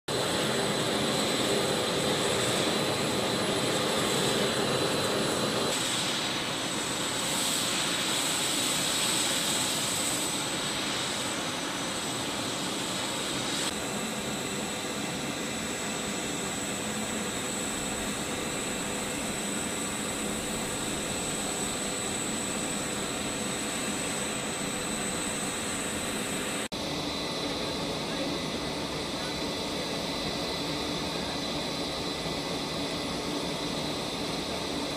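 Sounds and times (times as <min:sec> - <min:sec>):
turboprop engines droning: 0:00.1 - 0:34.9.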